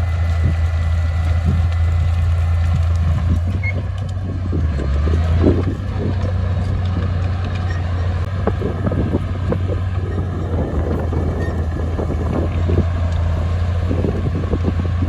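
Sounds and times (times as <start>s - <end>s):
diesel engine deep hum: 0.0s - 15.0s.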